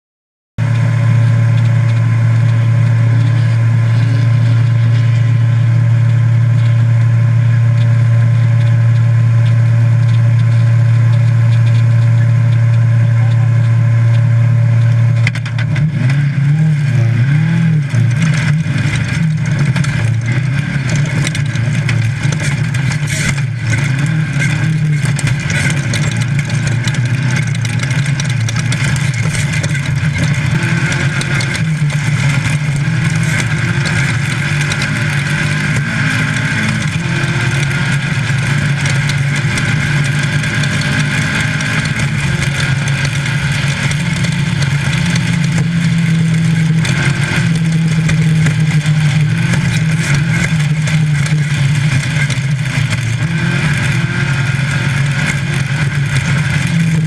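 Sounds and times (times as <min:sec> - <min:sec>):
knocks and rattles: 0:00.6 - 0:57.0
race car engine under load: 0:00.6 - 0:57.0
road noise: 0:00.6 - 0:57.0.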